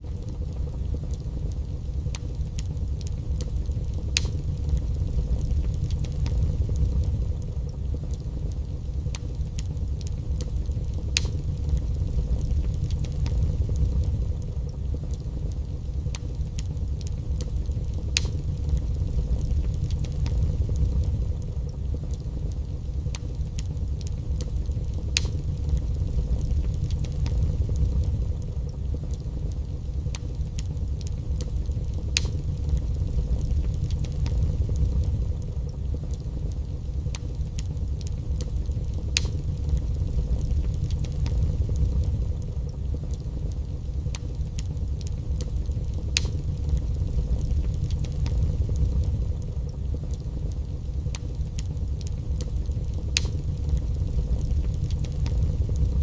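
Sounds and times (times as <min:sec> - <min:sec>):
fire crackling and popping: 0:00.0 - 0:56.0
fire roaring: 0:00.0 - 0:56.0.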